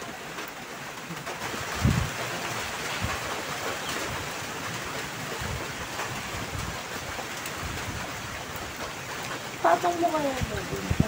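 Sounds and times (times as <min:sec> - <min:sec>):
light rain hiss: 0:00.0 - 0:11.0.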